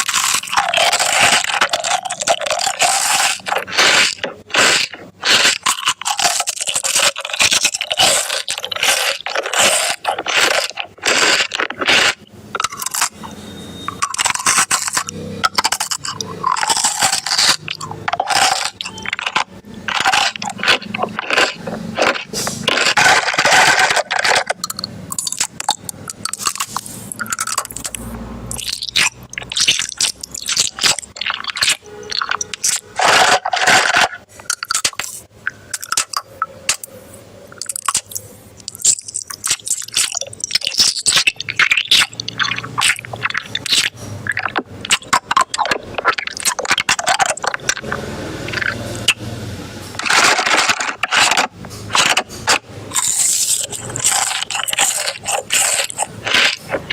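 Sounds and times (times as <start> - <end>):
crunchy food being chewed: 0.0 - 49.2, 49.9 - 56.9.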